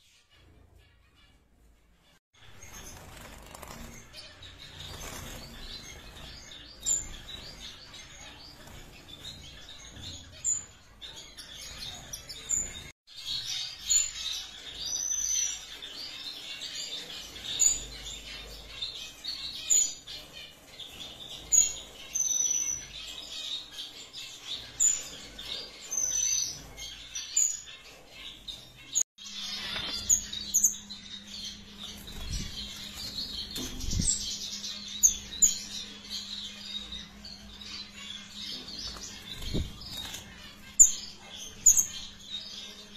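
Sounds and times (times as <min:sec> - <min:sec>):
small birds chirping and twittering: 0:00.0 - 0:42.9.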